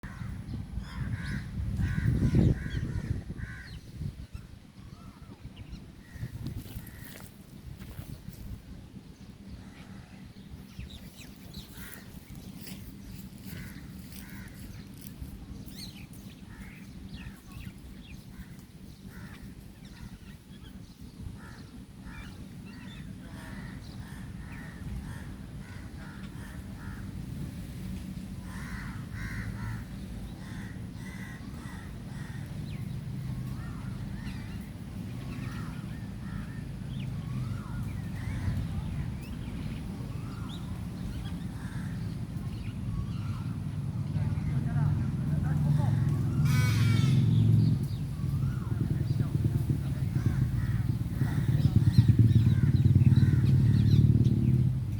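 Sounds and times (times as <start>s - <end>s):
birds calling and chirping: 0.0s - 54.9s
steady low hum: 0.0s - 54.9s.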